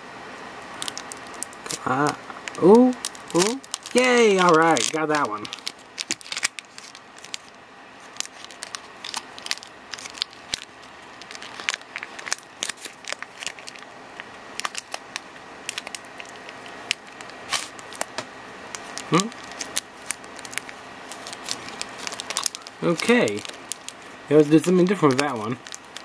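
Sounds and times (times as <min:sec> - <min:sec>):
foil wrapper crinkling: 0:00.7 - 0:26.0.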